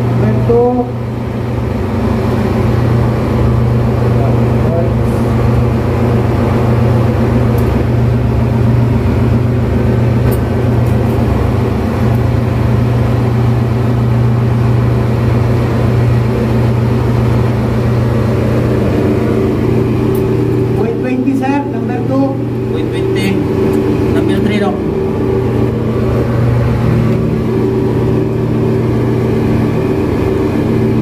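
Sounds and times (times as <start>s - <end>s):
engine room machinery drone: 0.0s - 31.0s.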